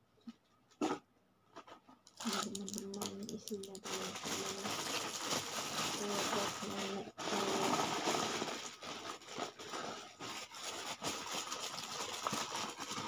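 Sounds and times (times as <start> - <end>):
packaging rustling and clicking: 1.6 - 13.0.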